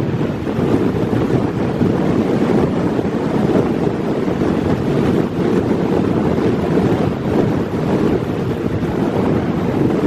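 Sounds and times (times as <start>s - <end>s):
choppy water washing: 0.0s - 10.0s
wind buffeting microphone: 0.0s - 10.0s.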